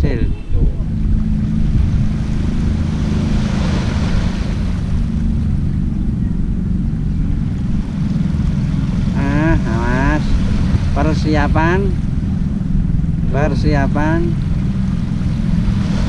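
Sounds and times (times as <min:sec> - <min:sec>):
small waves lapping shore: 0:00.0 - 0:06.2, 0:06.8 - 0:16.0
low engine hum: 0:00.0 - 0:16.0
wind on microphone: 0:00.0 - 0:16.0.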